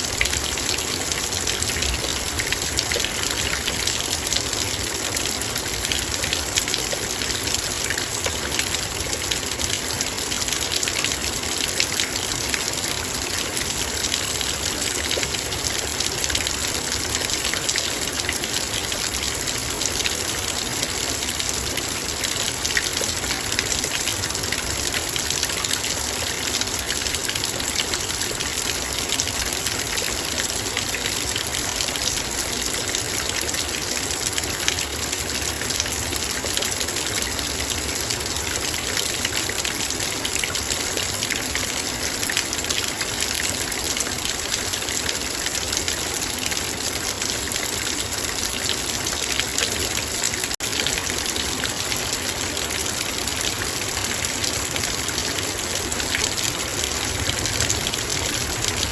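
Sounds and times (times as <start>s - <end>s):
heavy rain rushing: 0.0s - 58.9s
raindrops pattering on metal bowl: 0.1s - 58.9s.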